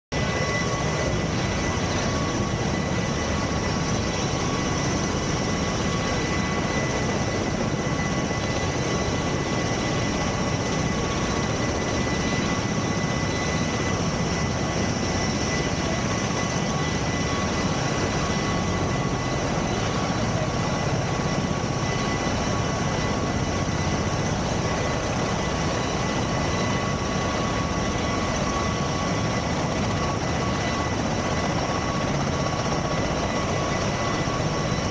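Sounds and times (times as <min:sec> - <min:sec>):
aircraft turbine engine roar: 0:00.1 - 0:34.9.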